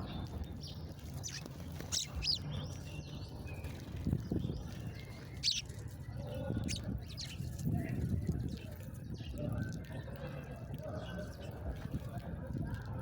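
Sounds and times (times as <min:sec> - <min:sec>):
small birds chirping: 0:00.0 - 0:12.2.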